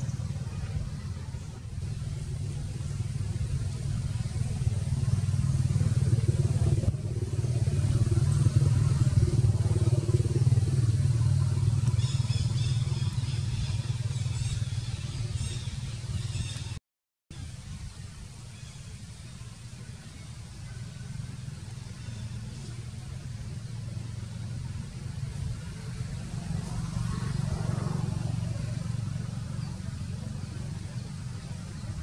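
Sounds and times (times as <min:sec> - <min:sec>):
low motor rumble: 0:00.0 - 0:16.8, 0:17.4 - 0:32.0.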